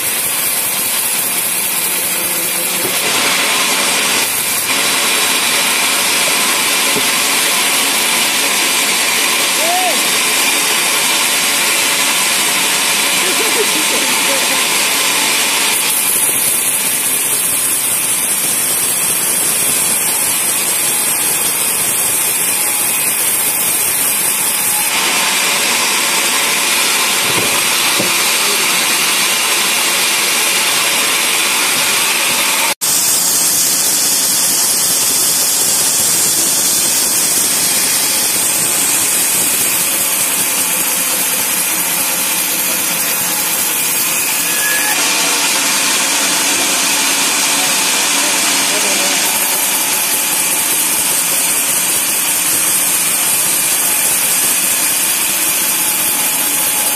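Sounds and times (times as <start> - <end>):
band saw cutting log: 0.0 - 56.9.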